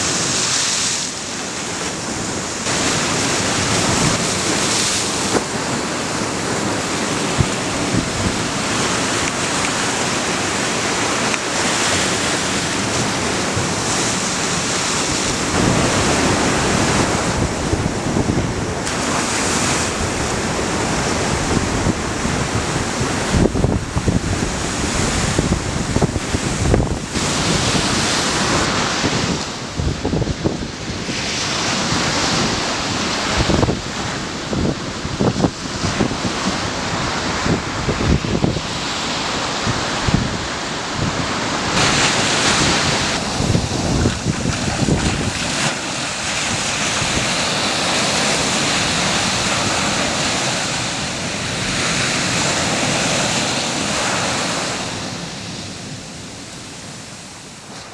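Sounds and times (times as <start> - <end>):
ocean surf breaking: 0.0 - 57.9
wind on microphone: 0.0 - 57.9.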